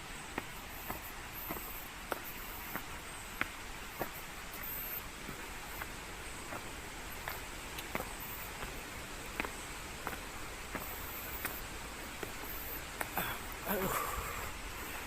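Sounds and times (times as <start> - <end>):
outdoor background hiss: 0.0 - 15.0
footsteps going down steps: 0.2 - 15.0.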